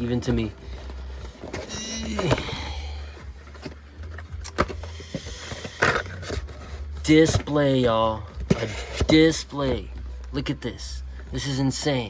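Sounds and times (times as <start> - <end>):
packaging rustling: 0.0 - 10.4
low steady hum: 0.0 - 12.0.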